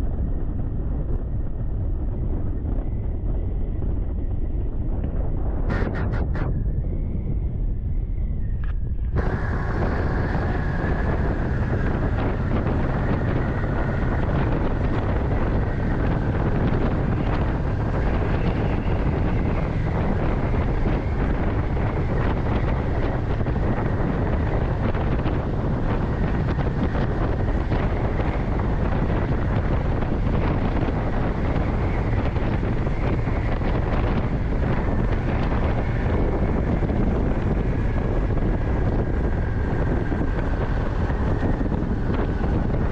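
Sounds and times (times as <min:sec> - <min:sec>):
motorcycle engine drone: 0:00.0 - 0:42.9
wind buffeting microphone: 0:00.0 - 0:42.9.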